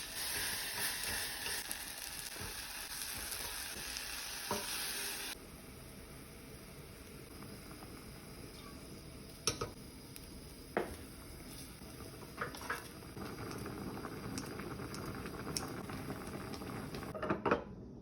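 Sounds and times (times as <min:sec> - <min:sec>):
soup boiling and bubbling: 0:00.0 - 0:17.2.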